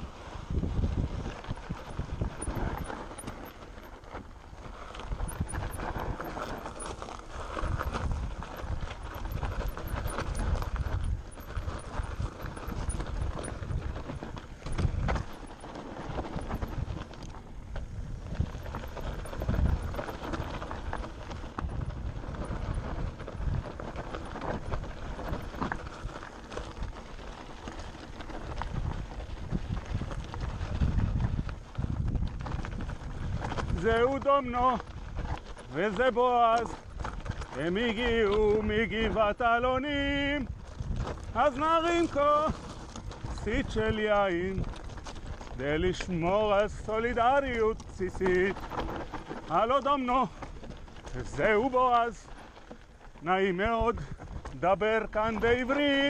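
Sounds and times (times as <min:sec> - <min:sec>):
bike knocking and rattling: 0:00.0 - 0:56.0
bike tyres crunching over stones: 0:00.0 - 0:56.0
low wind rumble on microphone: 0:00.0 - 0:56.0.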